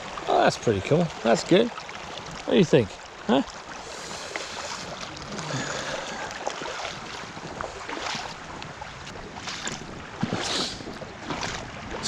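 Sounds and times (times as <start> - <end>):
creek rushing over its bed: 0.0 - 12.0.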